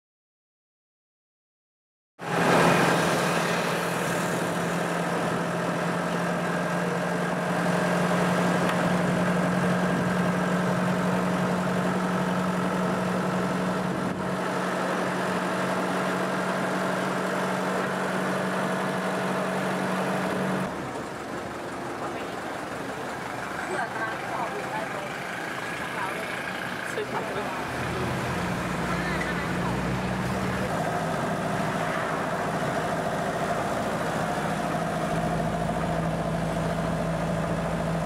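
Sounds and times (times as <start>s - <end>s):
road noise: 2.2s - 38.0s
truck engine humming: 2.2s - 38.0s.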